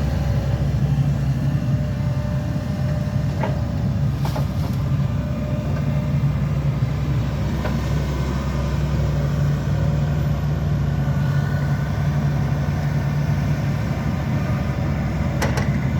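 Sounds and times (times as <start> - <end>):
excavator engine running: 0.0 - 15.9.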